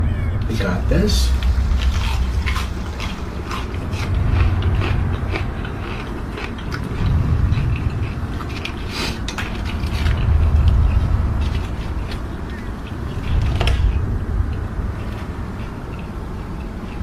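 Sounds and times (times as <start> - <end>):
low rumble: 0.0 - 16.9
close-up chewing and crunching: 1.3 - 17.0.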